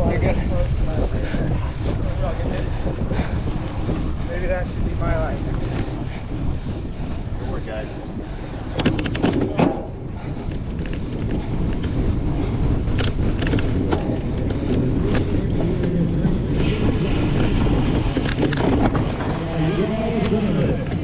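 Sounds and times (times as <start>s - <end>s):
bike rolling rumble: 0.0s - 21.0s
wind buffeting microphone: 0.0s - 21.0s.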